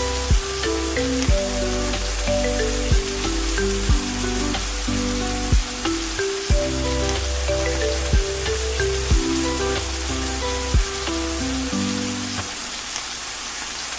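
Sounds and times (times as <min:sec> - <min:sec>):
soft background music: 0:00.0 - 0:12.9
steady rain hiss: 0:00.0 - 0:13.9.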